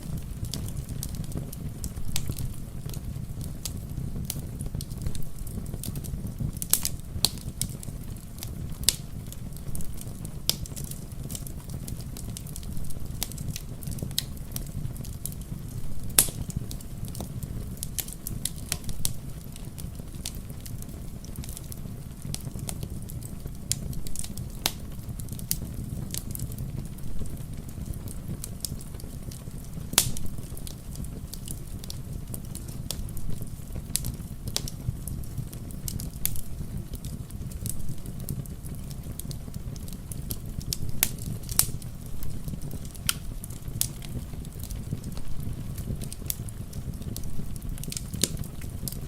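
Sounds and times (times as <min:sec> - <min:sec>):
low rumble of fire: 0:00.0 - 0:49.0
wood fire crackling: 0:00.0 - 0:49.0.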